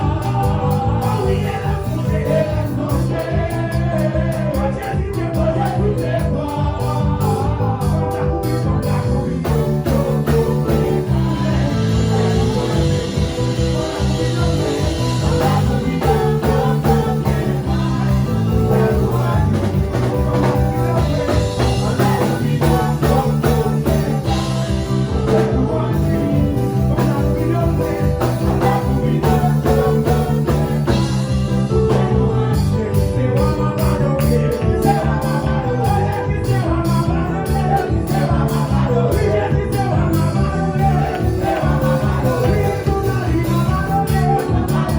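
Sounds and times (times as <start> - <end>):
church praise music with singing: 0.0 - 44.9.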